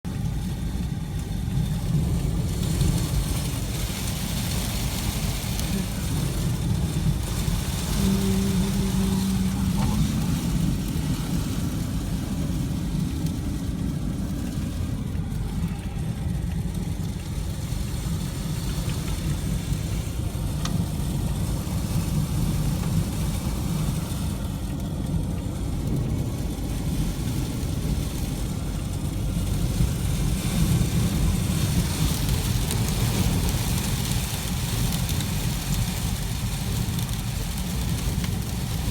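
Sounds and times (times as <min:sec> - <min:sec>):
strong wind buffeting microphone: 0:00.1 - 0:38.9.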